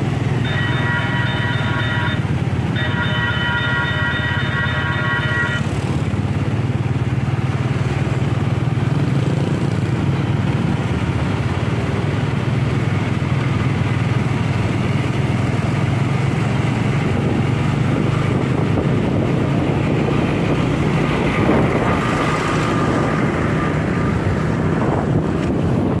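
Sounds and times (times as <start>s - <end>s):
truck engine droning: 0.0s - 7.4s, 12.3s - 26.0s.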